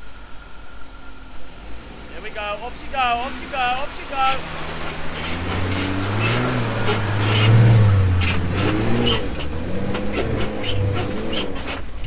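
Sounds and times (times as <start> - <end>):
car engine revving hard: 1.5 - 12.0
tyres spinning in sand: 2.1 - 12.0.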